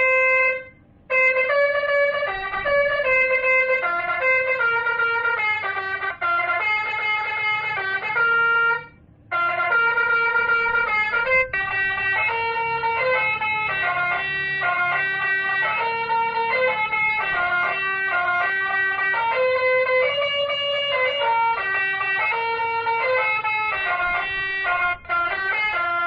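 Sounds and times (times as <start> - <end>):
horn playing multi-note melody: 0.0 - 26.0.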